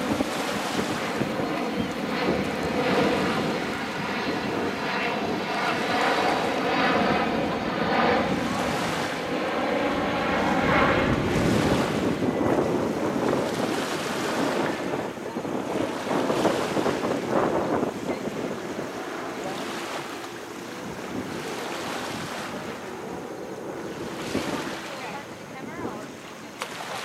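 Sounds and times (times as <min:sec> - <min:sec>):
airplane engine drone: 0:00.0 - 0:27.0
small waves lapping at shore: 0:00.0 - 0:27.0.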